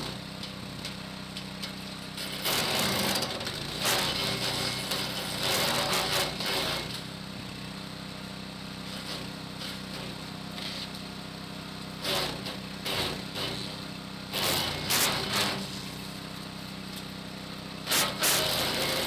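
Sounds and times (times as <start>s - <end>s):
branches crackling in shredder: 0.0s - 7.2s, 8.8s - 19.0s
branch shredder humming: 0.0s - 19.0s.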